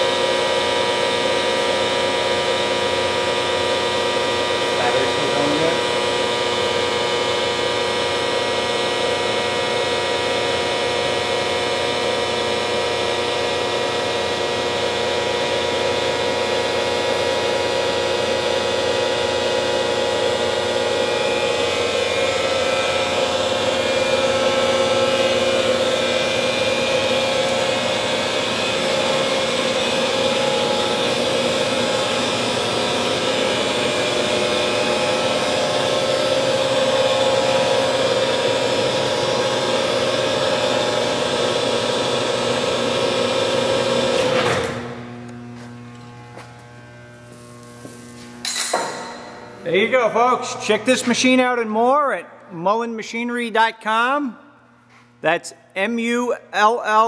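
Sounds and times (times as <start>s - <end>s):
machine motor humming and whining: 0.0s - 51.6s.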